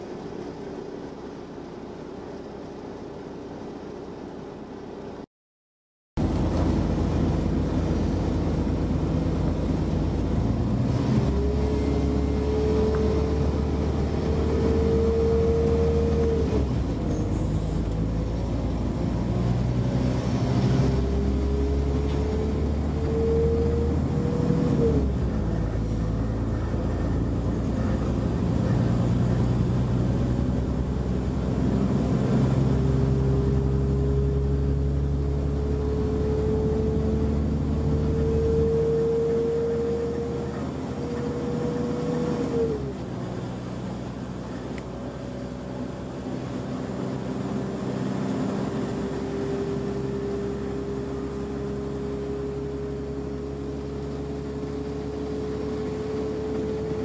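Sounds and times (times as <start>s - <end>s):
diesel engine running under load: 6.2s - 57.0s
transmission whine climbing: 6.2s - 57.0s.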